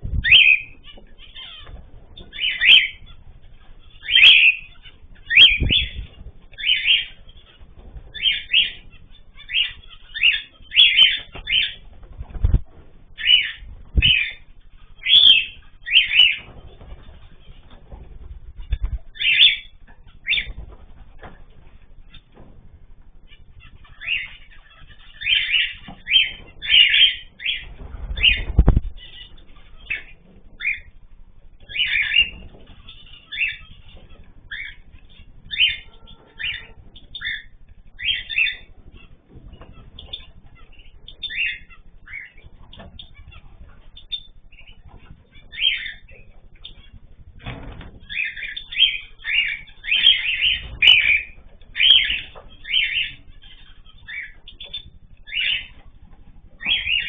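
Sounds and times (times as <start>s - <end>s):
cage birds chirping: 0.0s - 57.0s
wing-flapping rustle: 5.0s - 15.1s, 15.7s - 24.6s, 25.2s - 57.0s.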